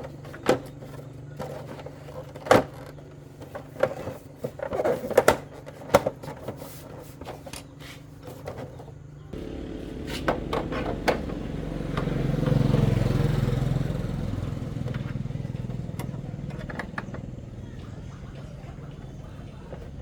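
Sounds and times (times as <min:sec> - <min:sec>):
small motorcycle engine running: 0:00.0 - 0:06.3, 0:07.1 - 0:20.0.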